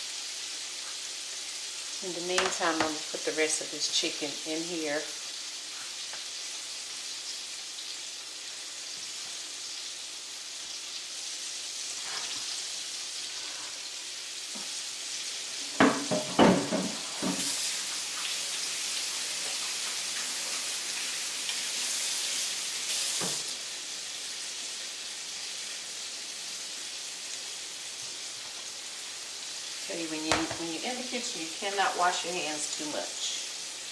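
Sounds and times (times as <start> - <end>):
chicken sizzling in a skillet: 0.0 - 33.9.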